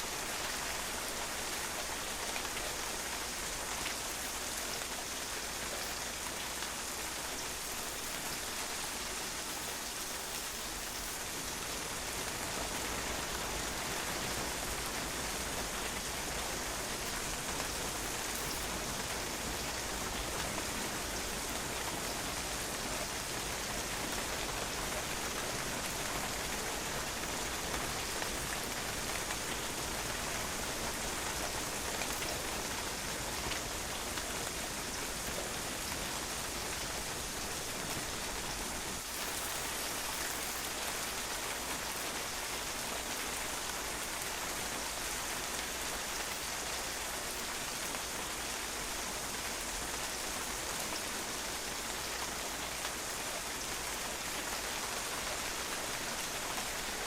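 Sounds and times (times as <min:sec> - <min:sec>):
rain pattering on patio: 0:00.0 - 0:57.0.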